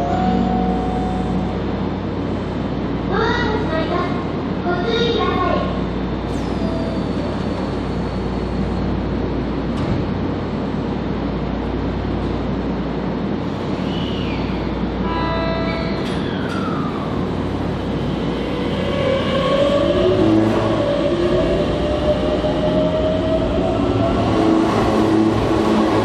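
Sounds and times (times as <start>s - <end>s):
electric train rumbling on rails: 0.0s - 26.0s.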